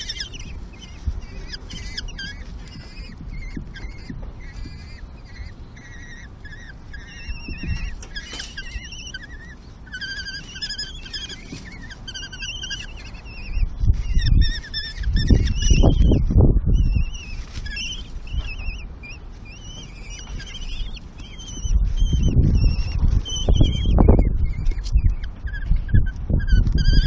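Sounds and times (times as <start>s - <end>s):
chicks begging calls: 0.0s - 27.0s.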